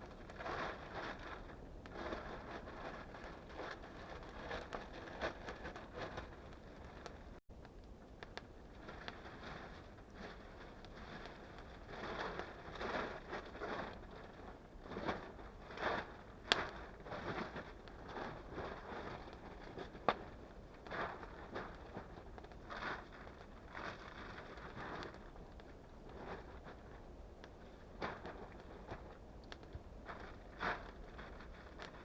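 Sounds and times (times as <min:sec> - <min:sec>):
rustling and scraping by hand: 0:00.0 - 0:07.4, 0:08.7 - 0:32.0.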